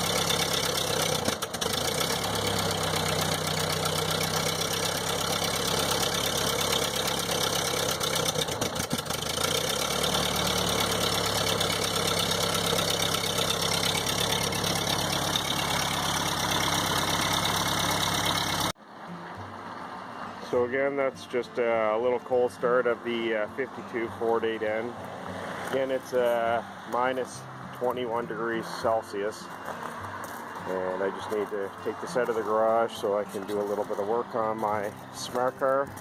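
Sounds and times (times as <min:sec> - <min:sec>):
tractor engine idling: 0:00.0 - 0:18.8, 0:20.8 - 0:36.0.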